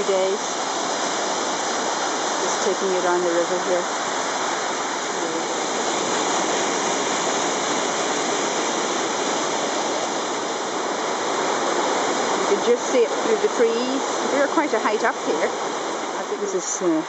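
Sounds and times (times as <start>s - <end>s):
waterfall and river rushing: 0.0s - 17.0s.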